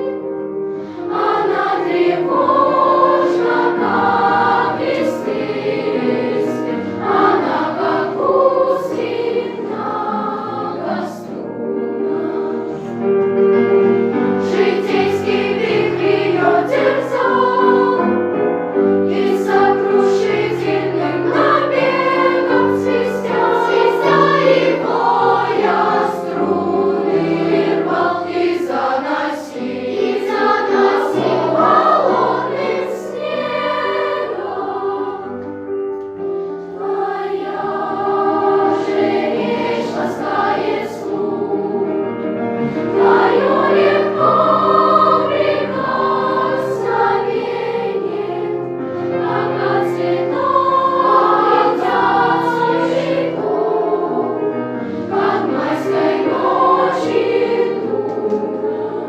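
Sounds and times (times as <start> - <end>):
children's choir singing: 0.0 - 59.0.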